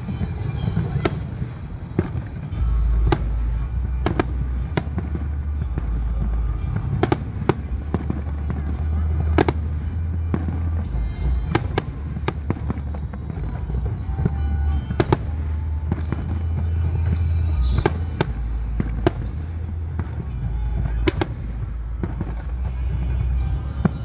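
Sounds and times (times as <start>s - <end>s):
fireworks bursting with sharp bangs: 0.0s - 24.0s
low rumble: 0.0s - 24.0s.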